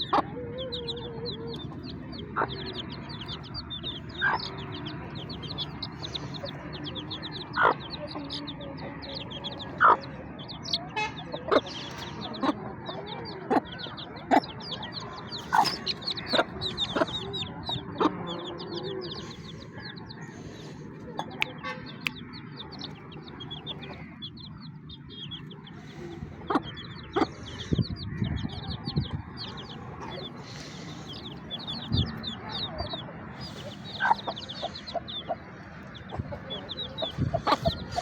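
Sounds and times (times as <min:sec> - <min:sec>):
chickens clucking: 0:00.0 - 0:38.0
high chirping calls: 0:00.0 - 0:38.0.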